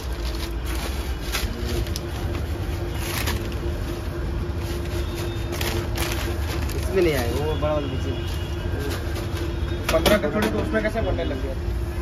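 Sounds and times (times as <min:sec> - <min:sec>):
constant hum: 0:00.0 - 0:12.0
street traffic rumble: 0:00.0 - 0:12.0.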